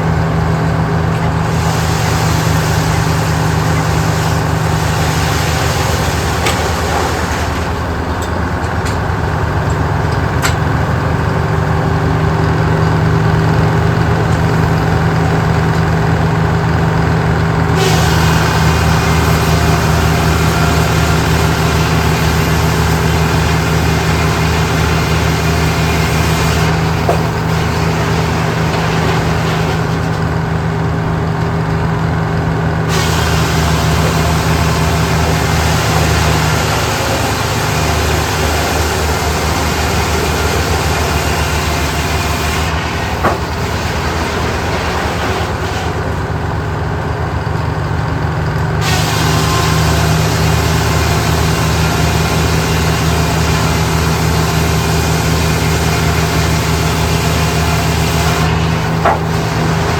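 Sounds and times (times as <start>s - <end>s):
large engine running: 0.0s - 59.9s.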